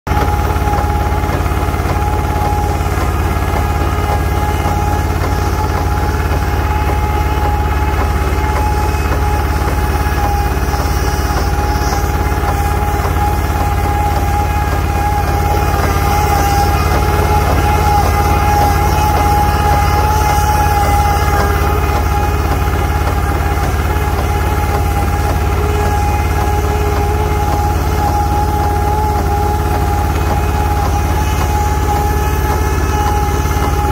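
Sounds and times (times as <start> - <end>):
low engine drone: 0.0 - 33.9
spraying machine whine: 0.1 - 33.9.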